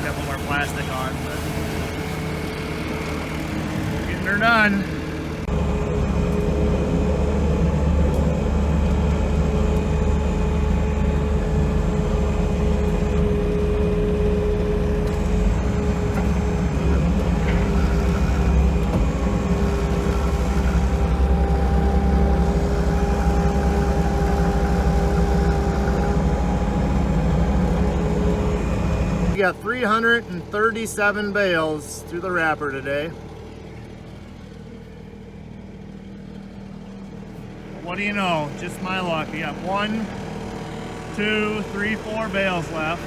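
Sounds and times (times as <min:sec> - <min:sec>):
engine humming steadily: 0:00.0 - 0:43.0.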